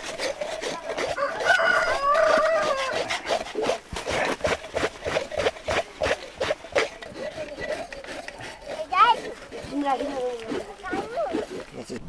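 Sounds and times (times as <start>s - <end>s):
metal cans scraping hide: 0.0s - 12.0s.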